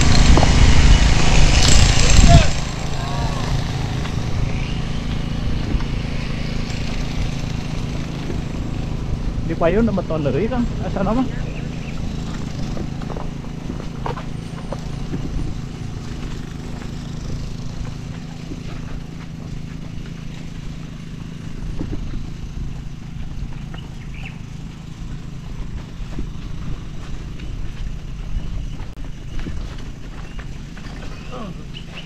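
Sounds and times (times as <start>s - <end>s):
bike rattling and knocking: 0.0s - 32.0s.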